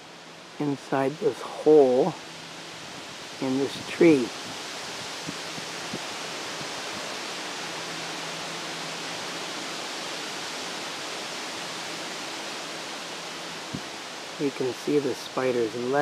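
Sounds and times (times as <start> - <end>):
steady wind noise: 0.0 - 16.0.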